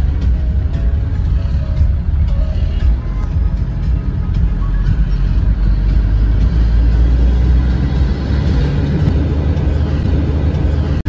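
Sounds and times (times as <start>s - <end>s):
truck engine rumble: 0.0s - 11.0s
tyres on the road: 0.0s - 11.0s.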